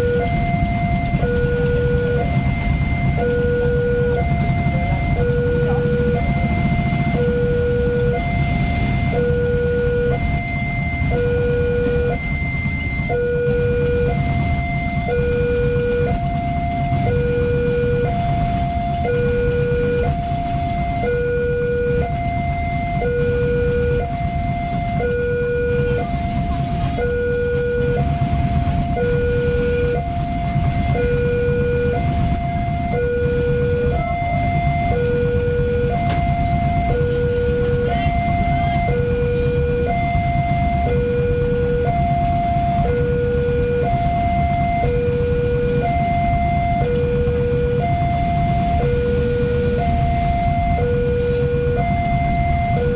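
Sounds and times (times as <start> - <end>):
level crossing two-tone alarm: 0.0 - 52.9
motorcycle engines idling: 0.0 - 52.9.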